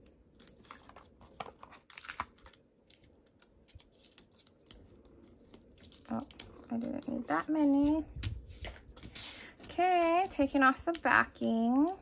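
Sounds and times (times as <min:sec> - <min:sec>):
card stock rustling: 0:00.3 - 0:12.0.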